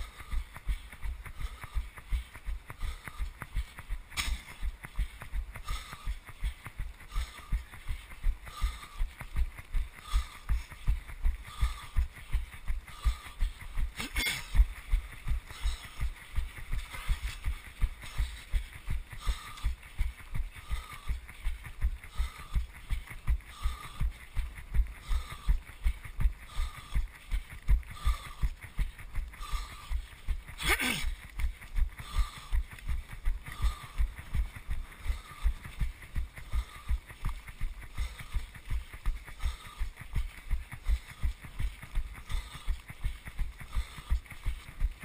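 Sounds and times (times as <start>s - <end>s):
running footfall thuds: 0.0s - 45.0s.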